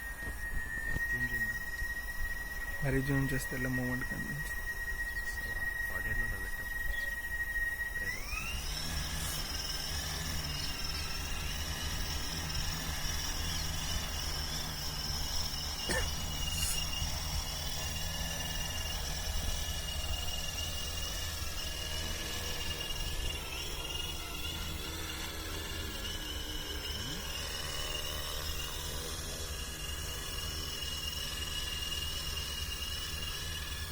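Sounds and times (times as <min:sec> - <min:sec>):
drone propellers whining: 0:00.0 - 0:33.9.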